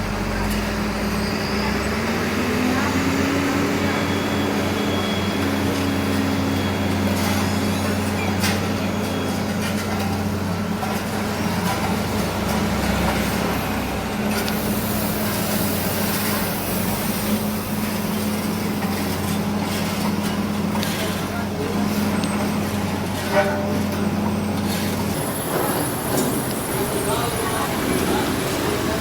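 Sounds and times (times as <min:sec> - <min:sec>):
heavy diesel engines running: 0:00.0 - 0:29.0.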